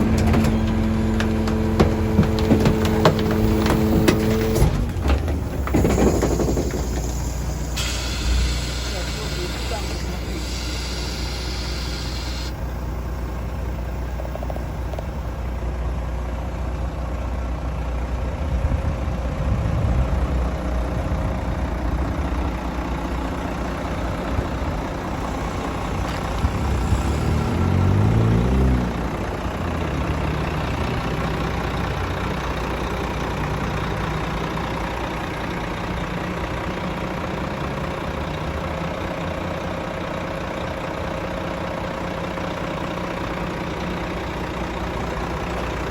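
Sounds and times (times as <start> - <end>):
diesel engine idling and revving: 0.0 - 45.9.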